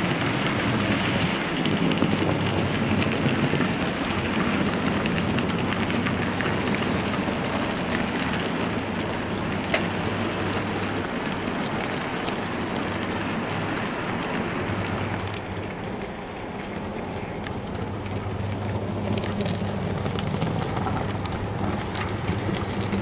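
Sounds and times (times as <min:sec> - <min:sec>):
model train wagons rattling: 0:00.1 - 0:23.0.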